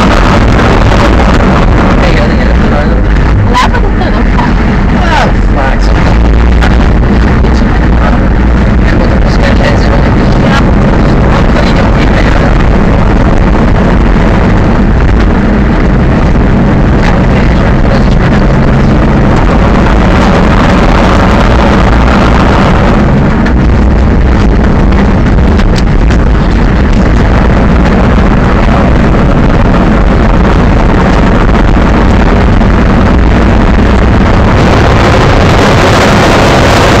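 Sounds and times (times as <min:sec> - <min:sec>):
truck engine running loud: 0:00.0 - 0:37.0
wind buffeting microphone: 0:00.0 - 0:37.0.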